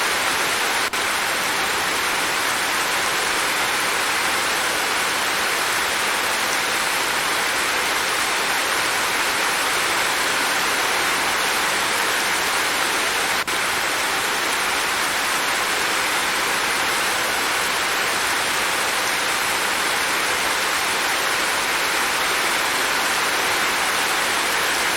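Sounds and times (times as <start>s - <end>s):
steady rainfall: 0.0s - 24.9s.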